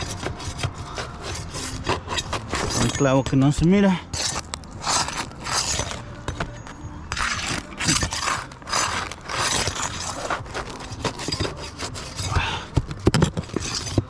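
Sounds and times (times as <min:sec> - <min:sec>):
roof shingle scraping: 0:00.0 - 0:06.4, 0:07.1 - 0:14.0.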